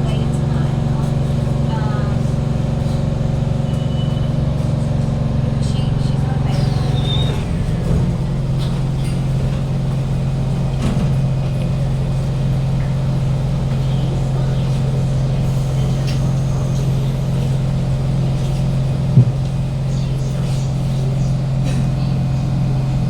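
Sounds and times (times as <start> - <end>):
loud ventilation hum in train carriage: 0.0 - 23.0.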